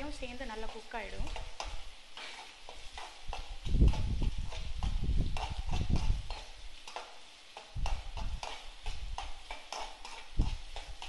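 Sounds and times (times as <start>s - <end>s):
spatula scraping metal pan: 0.0s - 11.0s.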